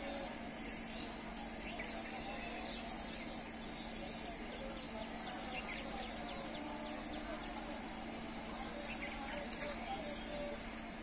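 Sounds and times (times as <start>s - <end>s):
faint bird chirps: 0.0s - 7.8s, 8.4s - 10.9s
insect drone: 0.0s - 11.0s
low steady hum: 0.0s - 11.0s.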